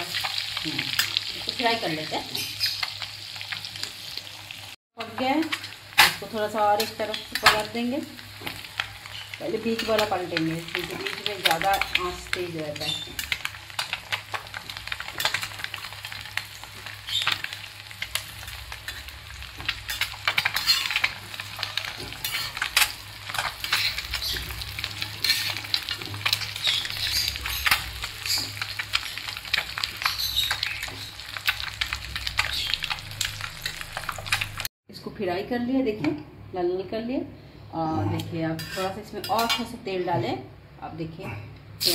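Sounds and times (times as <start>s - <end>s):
eggs sizzling in oil: 0.0s - 34.7s.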